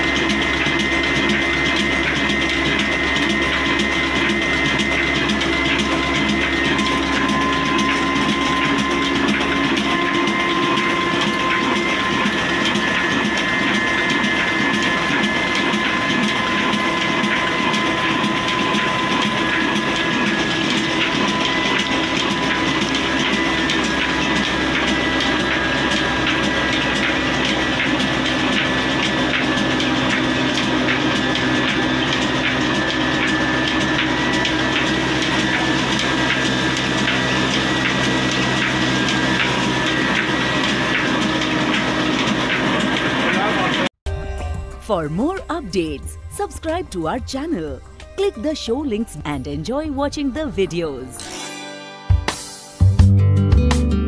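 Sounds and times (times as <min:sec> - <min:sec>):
diesel engine mechanical clatter: 0:00.0 - 0:43.9.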